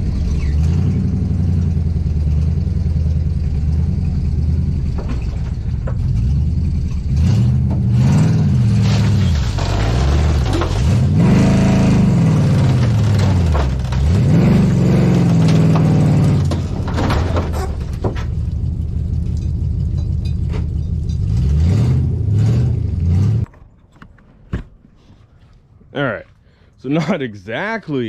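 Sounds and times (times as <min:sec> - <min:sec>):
pickup truck engine revving: 0:00.0 - 0:23.5.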